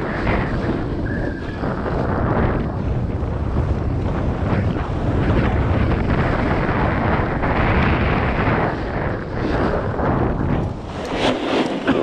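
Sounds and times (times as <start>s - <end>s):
snowboard scraping over snow: 0.0s - 12.0s
wind buffeting microphone: 0.0s - 12.0s.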